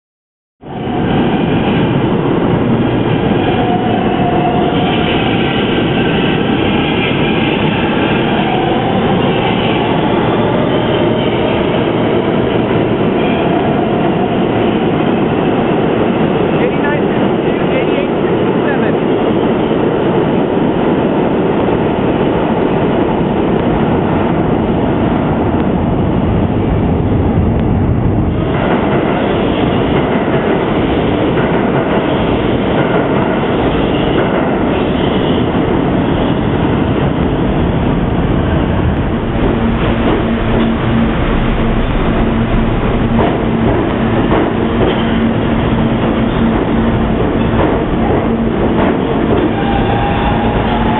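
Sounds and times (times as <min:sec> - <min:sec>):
subway train wheels rumbling on rail: 0:00.6 - 0:50.9.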